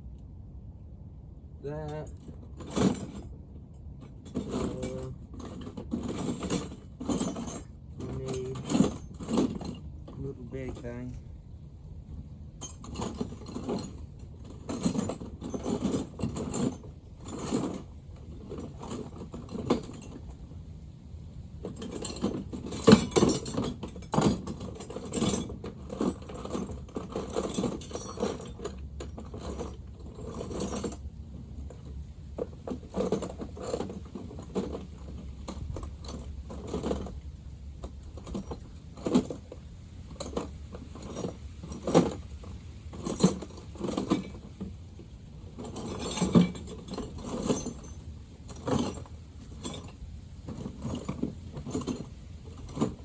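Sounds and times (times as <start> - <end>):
metal tools clinking and rattling: 4.0 - 11.2, 12.6 - 20.5, 21.6 - 37.2, 37.8 - 44.7, 45.5 - 53.0.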